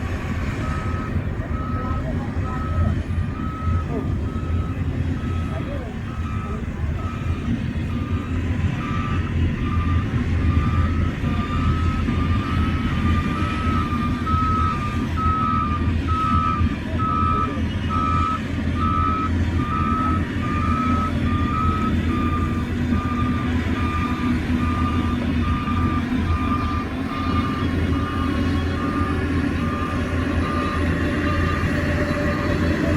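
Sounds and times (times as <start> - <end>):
diesel engine drone: 0.0 - 32.9
two-pitch backup alarm beeping: 0.6 - 32.9.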